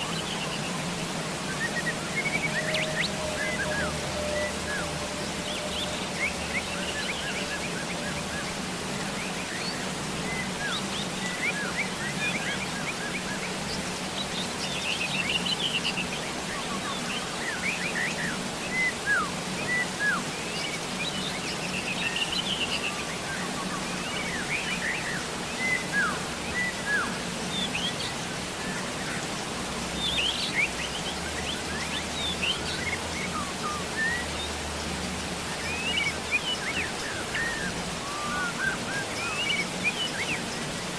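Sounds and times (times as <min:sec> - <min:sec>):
birds chirping: 0:00.0 - 0:40.9
rain hiss: 0:00.0 - 0:40.9.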